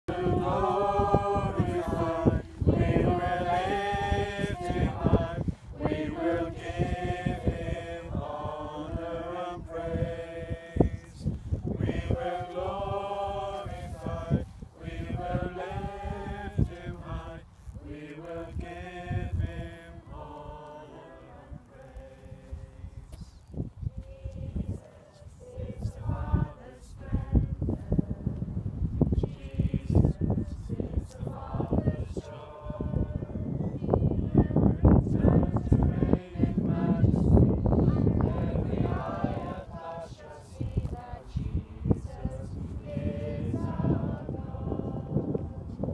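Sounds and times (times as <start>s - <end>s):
group singing a hymn: 0.0s - 45.9s
wind buffeting microphone: 0.1s - 45.9s.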